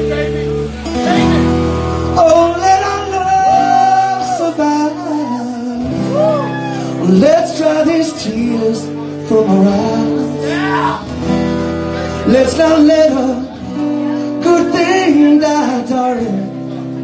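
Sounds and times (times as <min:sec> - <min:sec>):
live band playing: 0:00.0 - 0:17.0
man singing: 0:01.0 - 0:17.0.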